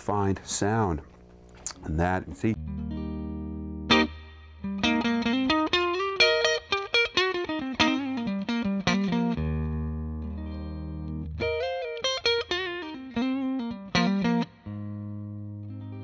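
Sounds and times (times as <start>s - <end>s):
clean electric guitar playing: 1.6s - 16.0s.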